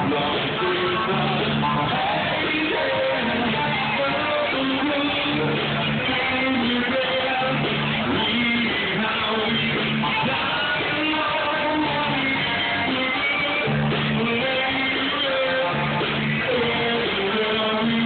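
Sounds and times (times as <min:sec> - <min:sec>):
electric guitar: 0:00.0 - 0:18.0
live band playing: 0:00.0 - 0:18.0.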